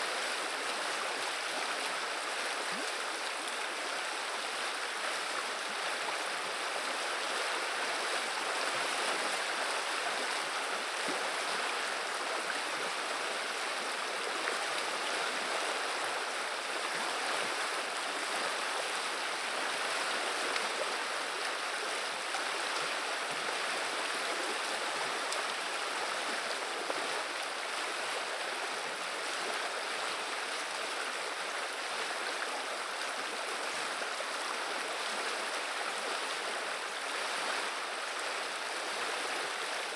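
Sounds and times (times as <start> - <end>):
river rushing over shallows: 0.0 - 39.9.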